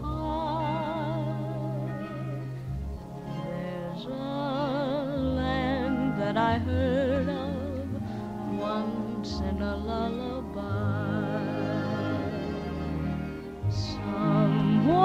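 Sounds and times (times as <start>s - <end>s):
person singing with vibrato: 0.0s - 15.0s
sustained low accompaniment: 0.0s - 15.0s.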